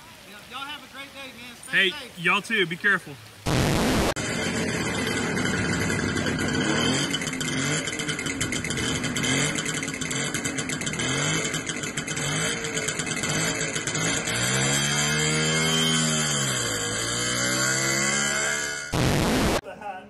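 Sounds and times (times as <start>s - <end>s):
motorcycle engine revving: 3.5s - 19.6s.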